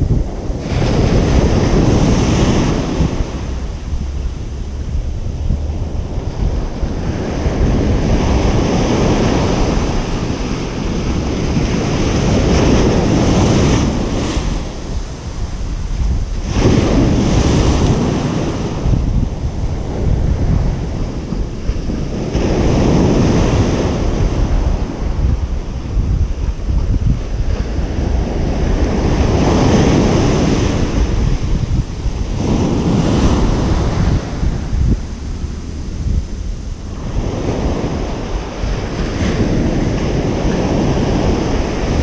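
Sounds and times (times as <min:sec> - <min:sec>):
constant low rumble: 0:00.0 - 0:42.0
waves breaking on a beach: 0:00.0 - 0:42.0
wind buffeting microphone: 0:00.0 - 0:42.0.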